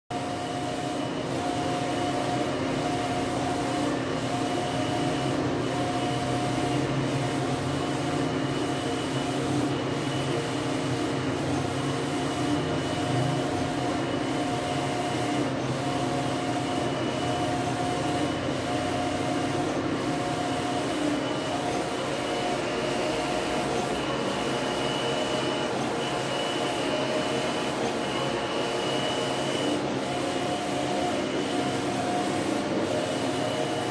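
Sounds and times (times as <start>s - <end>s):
printer mechanical hum: 0.1s - 33.9s.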